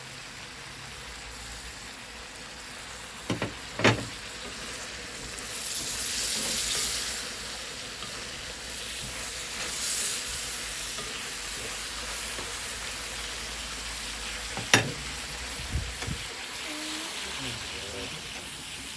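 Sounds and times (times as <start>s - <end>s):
food sizzling in a pan: 0.0s - 18.9s.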